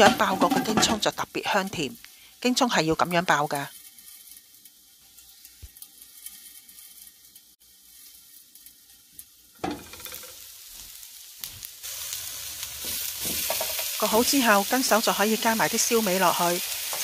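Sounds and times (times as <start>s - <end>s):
vegetables frying in oil: 0.0s - 17.0s.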